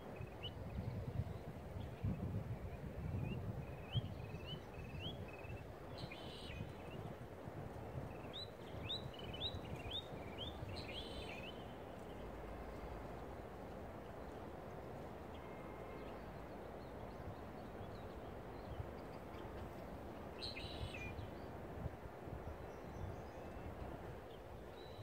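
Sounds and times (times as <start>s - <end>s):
songbird chirping: 0.0s - 7.2s, 7.8s - 25.0s.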